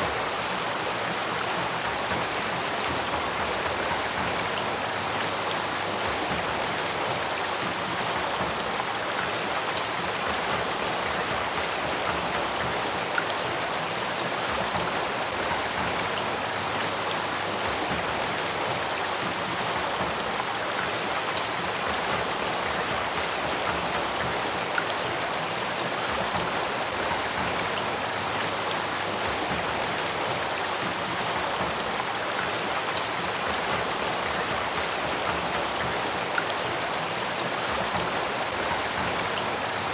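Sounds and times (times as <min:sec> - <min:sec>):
stream flowing with splashes: 0:00.0 - 0:39.9.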